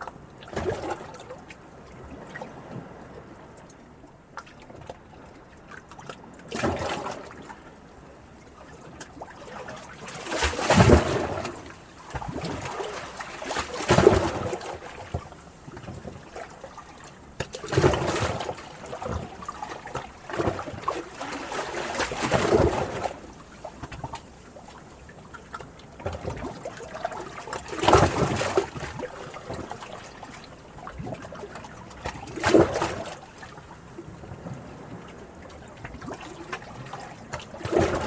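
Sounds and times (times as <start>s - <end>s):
sea water lapping: 0.0s - 38.0s.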